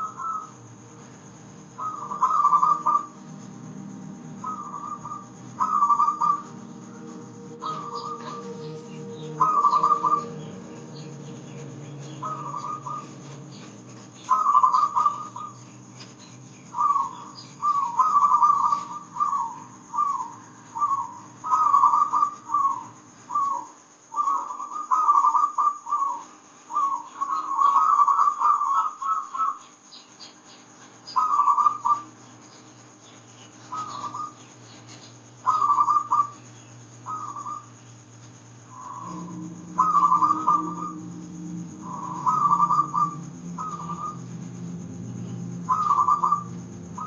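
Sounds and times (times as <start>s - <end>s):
dove cooing: 0.0s - 0.9s, 1.7s - 29.6s, 31.1s - 32.2s, 33.6s - 37.8s, 38.6s - 47.0s.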